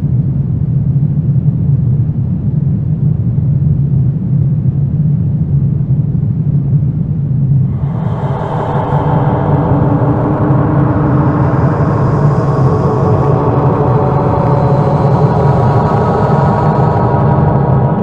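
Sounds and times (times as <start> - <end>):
deep rumbling drone: 0.0 - 18.0.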